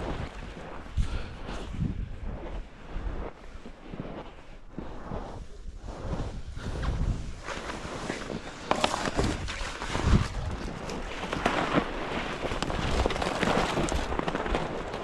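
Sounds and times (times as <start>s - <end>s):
footsteps crunching through snow: 0.0s - 15.0s
wind on microphone: 0.0s - 15.0s.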